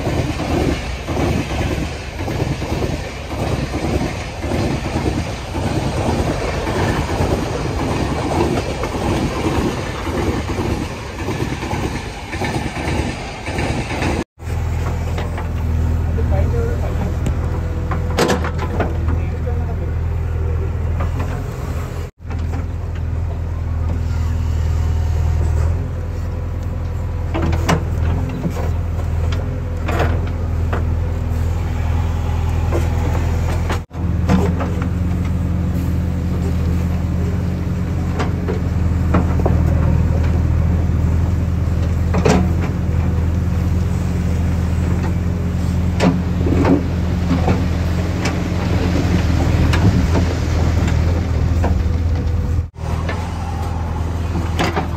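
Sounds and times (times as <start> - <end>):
heavy diesel engines running: 0.0 - 54.9.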